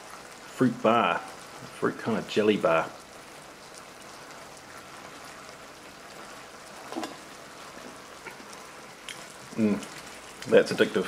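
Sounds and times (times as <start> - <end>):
food sizzling and crackling in tin: 0.0 - 11.0.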